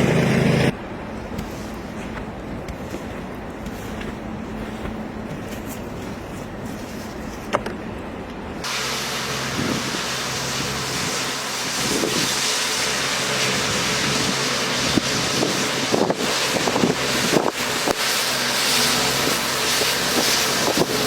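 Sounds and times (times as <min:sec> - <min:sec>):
low steady hum: 0:00.0 - 0:20.9
blizzard wind hissing: 0:00.3 - 0:21.0.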